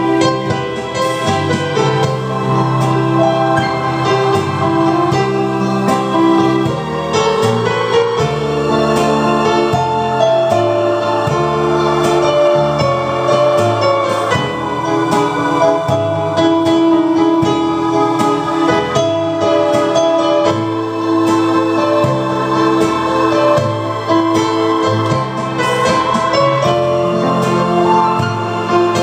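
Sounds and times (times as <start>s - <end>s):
piano notes and chords: 0.0s - 29.0s.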